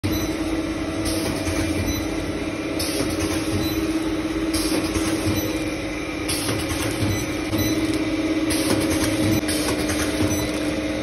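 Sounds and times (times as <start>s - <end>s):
mixing machine hum and rumble: 0.0s - 11.0s.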